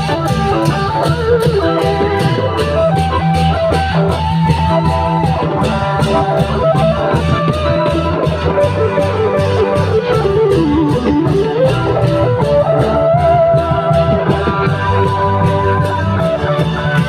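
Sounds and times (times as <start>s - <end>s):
electric plucked-string lead: 0.0s - 17.0s
heavy bass: 0.0s - 17.0s
steady percussion beat: 0.0s - 17.0s.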